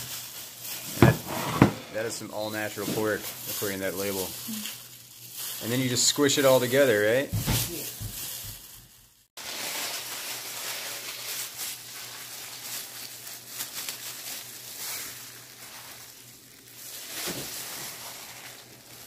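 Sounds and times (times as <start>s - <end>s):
plastic gloves rustling: 0.0s - 19.0s.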